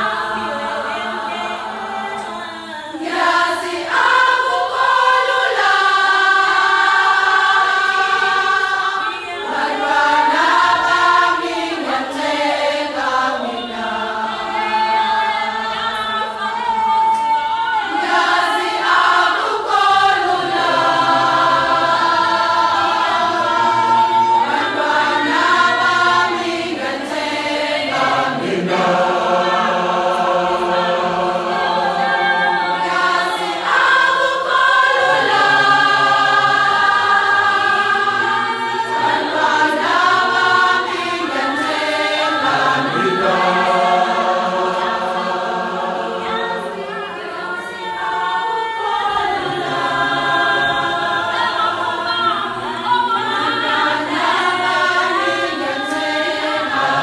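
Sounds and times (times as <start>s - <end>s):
women's choir singing in harmony: 0.0s - 57.0s.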